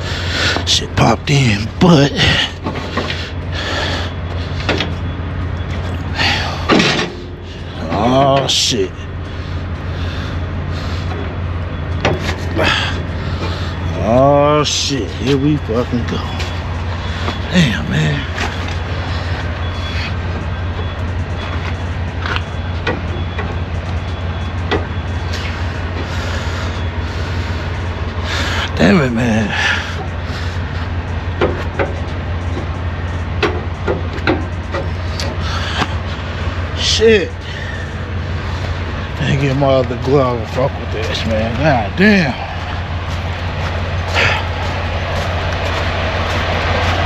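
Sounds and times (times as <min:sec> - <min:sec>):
diesel engine idling: 0:00.0 - 0:47.0.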